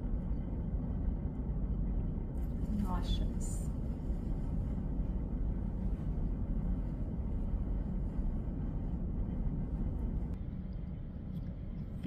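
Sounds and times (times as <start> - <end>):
low room noise rumble: 0.0 - 12.0.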